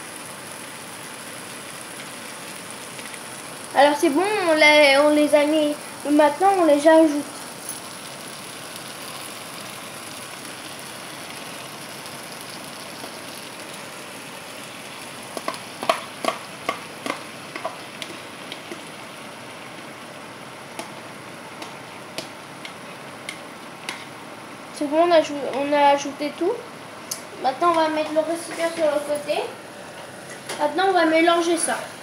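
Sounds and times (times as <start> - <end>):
sauce sizzling in a frying pan: 0.0 - 32.0.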